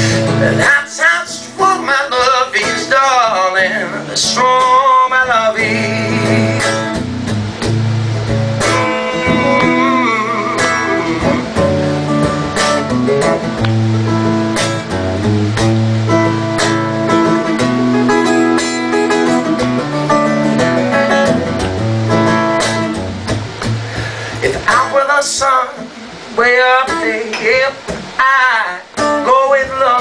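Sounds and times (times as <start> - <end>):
guitar picked notes and chords: 0.0 - 30.0.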